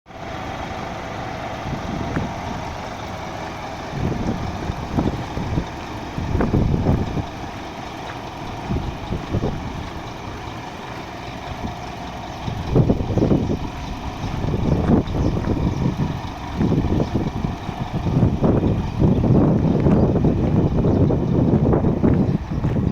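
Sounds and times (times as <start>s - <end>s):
diesel truck engine idling: 0.1s - 22.9s
low rumbles: 0.1s - 22.9s.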